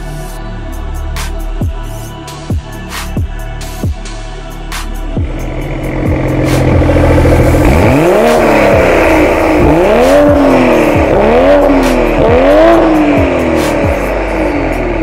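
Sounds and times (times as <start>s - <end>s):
car engine revving: 2.8s - 15.0s.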